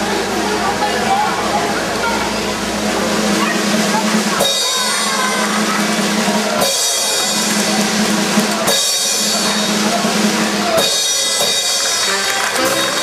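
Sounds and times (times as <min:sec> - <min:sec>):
drum-led circus music: 0:00.0 - 0:13.0.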